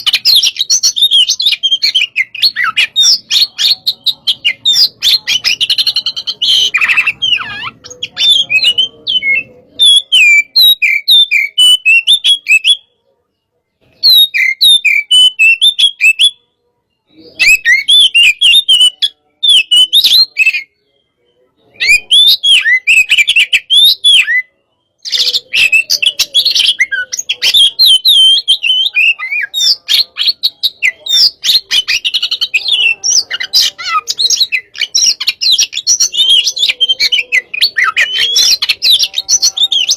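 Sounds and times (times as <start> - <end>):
magpie-robin singing: 0.0 - 13.0, 13.8 - 39.9.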